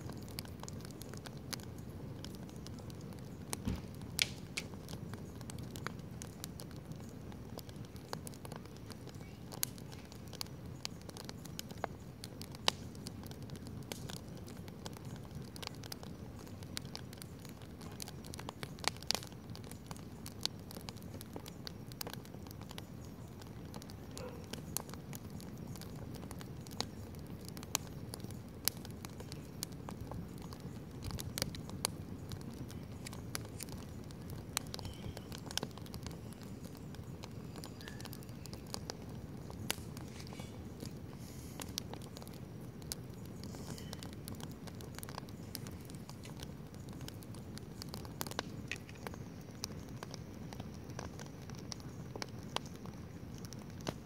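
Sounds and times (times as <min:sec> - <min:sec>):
campfire pops and crackles: 0:00.0 - 0:54.0
low fire rumble: 0:00.0 - 0:54.0.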